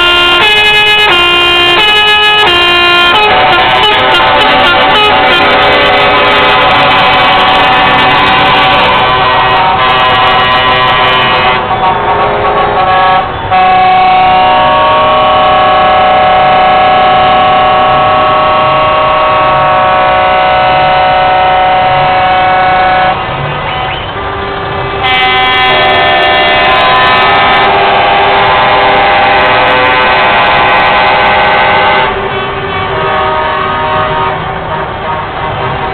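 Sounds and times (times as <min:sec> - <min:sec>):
truck air horns: 0:00.0 - 0:35.9.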